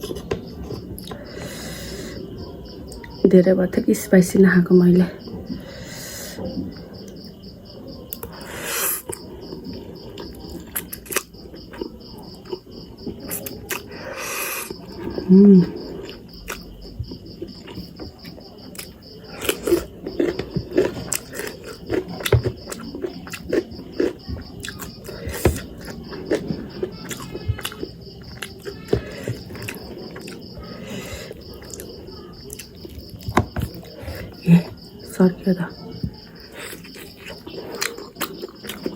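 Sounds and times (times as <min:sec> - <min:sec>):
person chewing noodles: 0:00.0 - 0:02.2, 0:08.1 - 0:34.6, 0:36.1 - 0:38.9
crickets chirping: 0:00.0 - 0:38.9.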